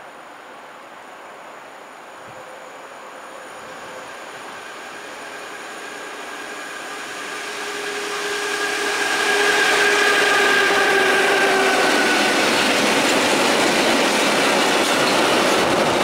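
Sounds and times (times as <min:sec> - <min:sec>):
freight train on rails: 0:00.0 - 0:16.0
locomotive whine: 0:02.1 - 0:16.0.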